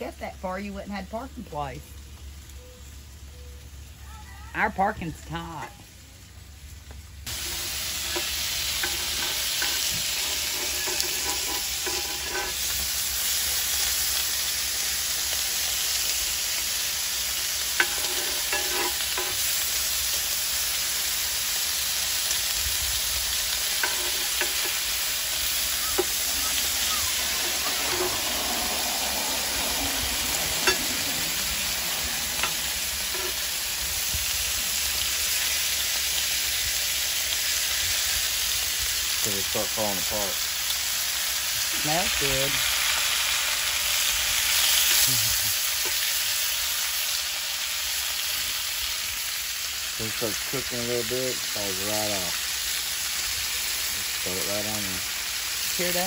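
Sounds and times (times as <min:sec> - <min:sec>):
bacon and sausages sizzling: 0:00.0 - 0:56.0.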